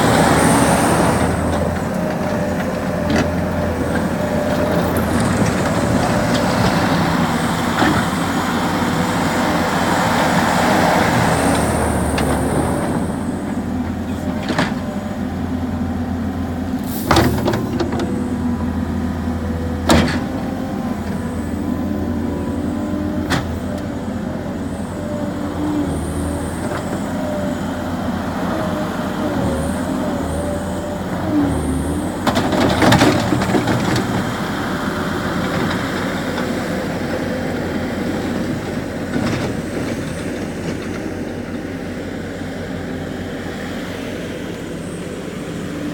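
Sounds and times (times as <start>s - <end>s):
loader engine running: 0.0s - 45.9s.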